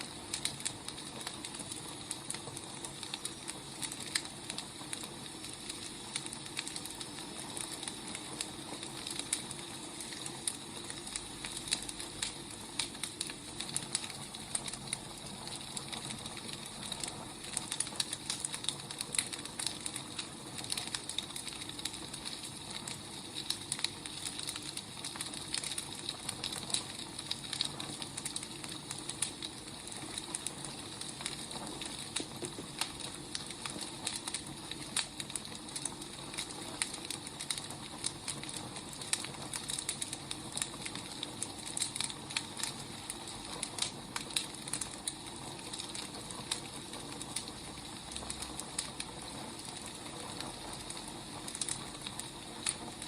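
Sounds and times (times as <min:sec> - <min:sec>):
firewood crackling and popping: 0:00.0 - 0:53.0.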